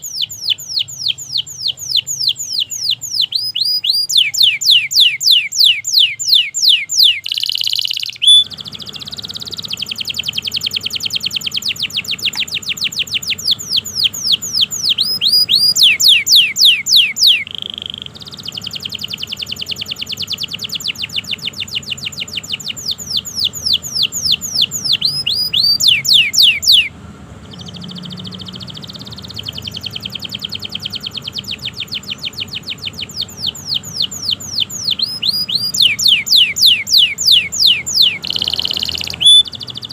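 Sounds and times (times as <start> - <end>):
buzzy rattles of canary: 0.0 - 26.9, 27.6 - 39.9
canary singing trills: 0.0 - 39.9.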